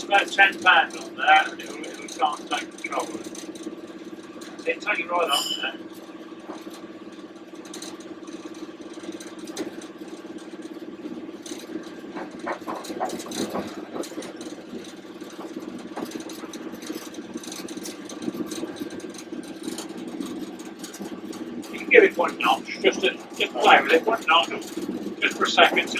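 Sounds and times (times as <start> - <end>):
locomotive engine idling: 0.0 - 6.3, 6.9 - 25.9.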